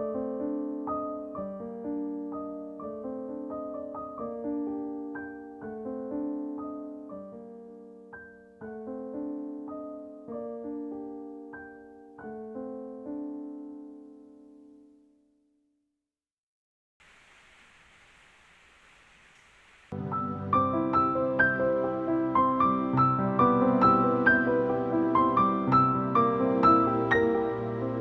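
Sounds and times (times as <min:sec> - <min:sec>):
soft solo piano music: 0:00.0 - 0:15.2, 0:19.9 - 0:28.0.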